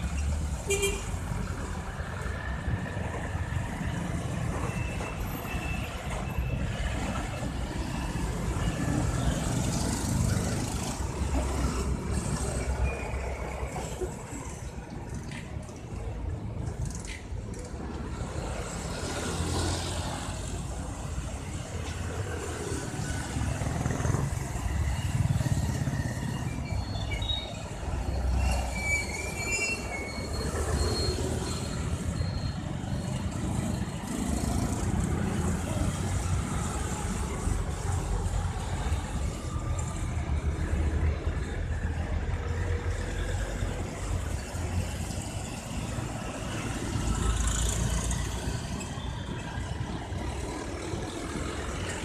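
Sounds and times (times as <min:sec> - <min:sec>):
cars and motorbikes passing: 0:00.0 - 0:52.0.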